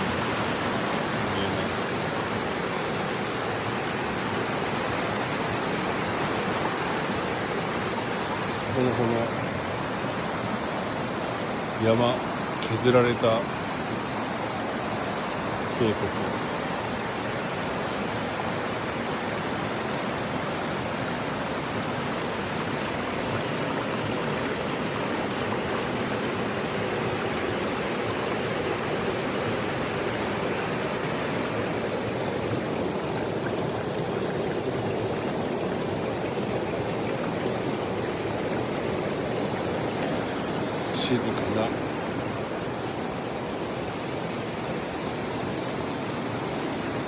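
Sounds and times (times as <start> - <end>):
river flowing over gravel: 0.0 - 47.0.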